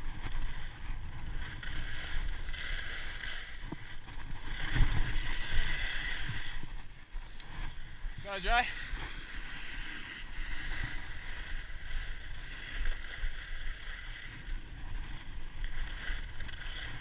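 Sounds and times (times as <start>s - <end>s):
skis scraping over hard snow: 0.0s - 17.0s
wind rumbling on microphone: 0.0s - 17.0s.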